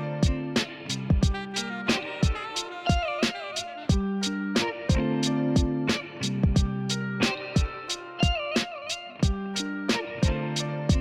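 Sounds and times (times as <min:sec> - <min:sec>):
bending lead melody: 0:00.0 - 0:11.0
guitar: 0:00.0 - 0:11.0
steady drum beat: 0:00.0 - 0:11.0.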